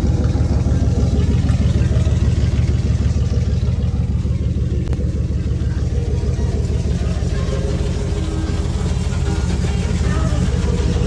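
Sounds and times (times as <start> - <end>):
engine running with knocking: 0.0 - 11.0.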